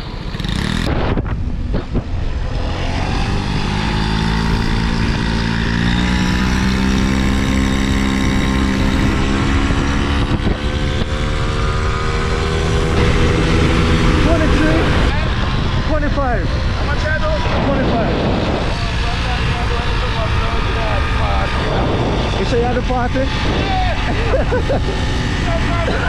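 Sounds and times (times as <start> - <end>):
combustion engine running: 0.0 - 26.0.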